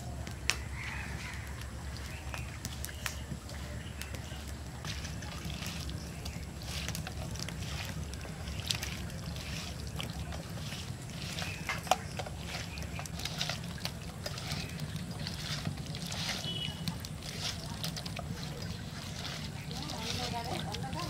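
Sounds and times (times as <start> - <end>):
low steady rumble: 0.0 - 21.0
hand squelching fish: 0.1 - 21.0.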